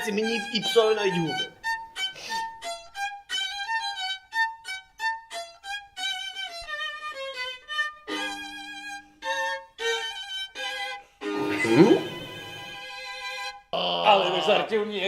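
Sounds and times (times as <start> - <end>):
violin playing a tune: 0.0 - 15.0.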